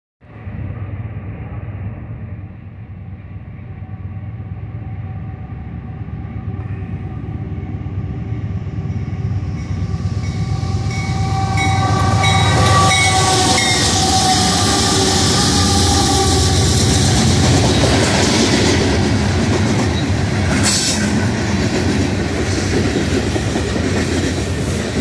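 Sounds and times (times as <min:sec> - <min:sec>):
wheels ringing on rail: 0:00.3 - 0:25.0.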